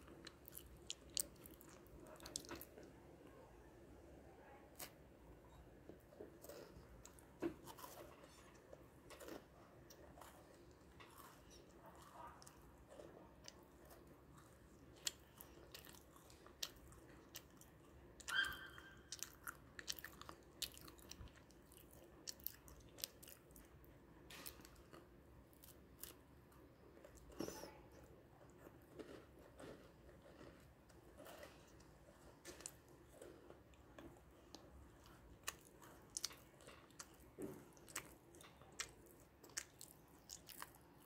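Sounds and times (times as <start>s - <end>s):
crunching and chewing cookie: 0.0s - 41.0s.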